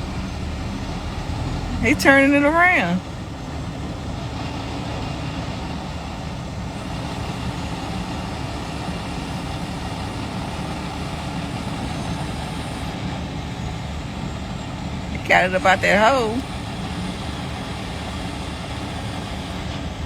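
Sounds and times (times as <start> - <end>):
heavy vehicle engine under load: 0.0 - 20.0.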